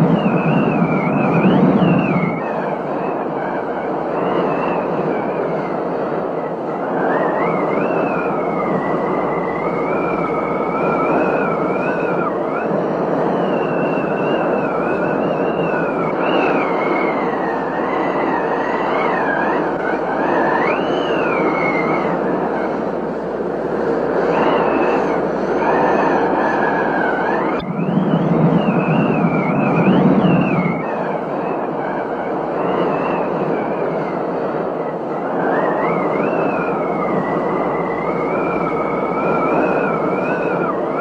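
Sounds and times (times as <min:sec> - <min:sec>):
wavering high whistling tone: 0:00.0 - 0:41.0.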